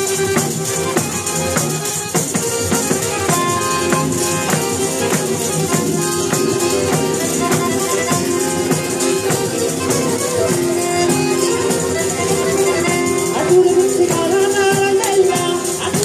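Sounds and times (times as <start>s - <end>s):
accordion: 0.0s - 16.0s
frame drums with jingles: 0.0s - 16.0s
guitar: 0.0s - 16.0s.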